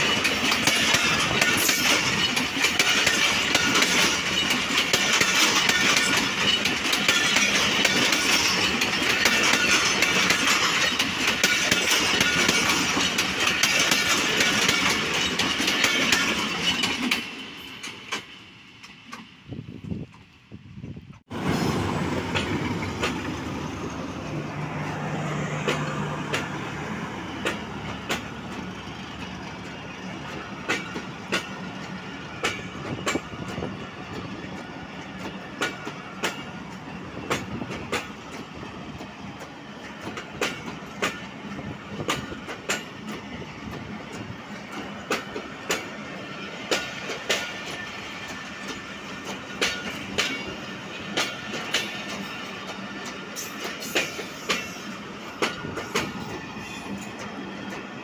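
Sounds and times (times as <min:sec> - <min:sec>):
wheels clacking over rail joints: 0:00.0 - 0:20.3, 0:21.2 - 0:58.0
locomotive passing: 0:00.0 - 0:58.0.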